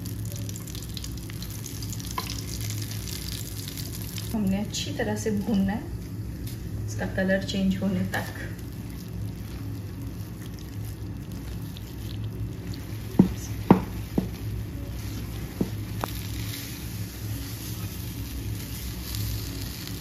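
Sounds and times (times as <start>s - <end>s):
paste squishing and sizzling: 0.0s - 4.4s, 8.0s - 20.0s
low steady hum: 0.0s - 20.0s.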